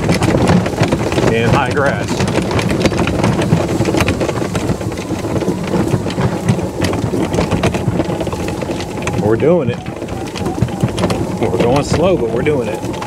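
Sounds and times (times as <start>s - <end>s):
cart roof rattling: 0.0s - 13.0s
grass swishing against cart: 0.0s - 13.0s.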